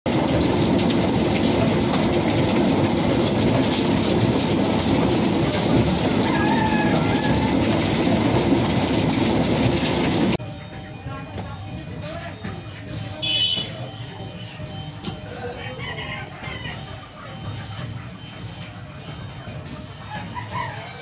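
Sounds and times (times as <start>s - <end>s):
din of a roadside market: 0.1s - 21.0s.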